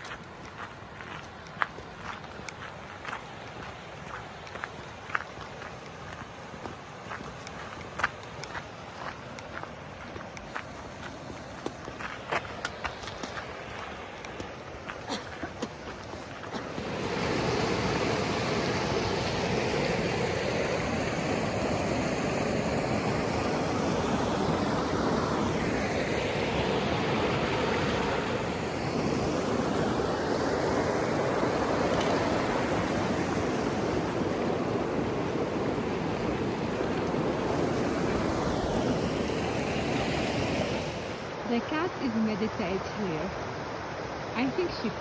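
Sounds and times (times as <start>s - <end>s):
river rushing over rocks: 0.0s - 45.0s.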